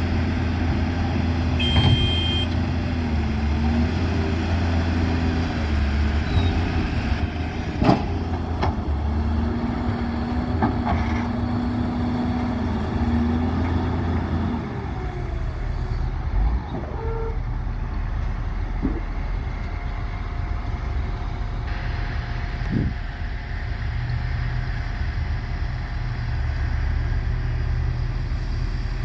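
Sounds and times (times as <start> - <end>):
heavy diesel machinery running: 0.0 - 29.0.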